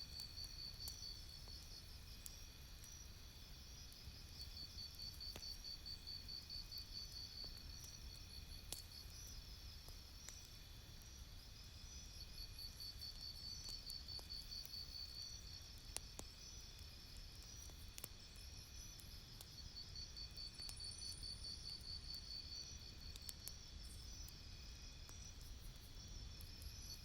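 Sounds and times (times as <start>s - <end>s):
campfire crackling and popping: 0.1s - 27.0s.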